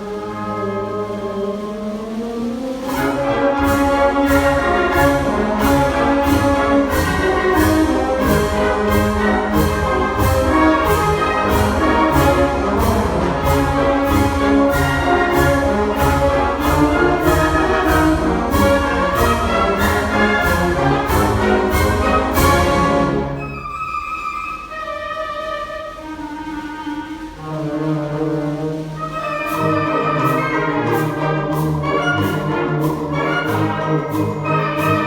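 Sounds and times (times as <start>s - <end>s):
wind band playing: 0.0s - 35.0s
steady percussion beat: 1.0s - 23.4s, 26.5s - 35.0s.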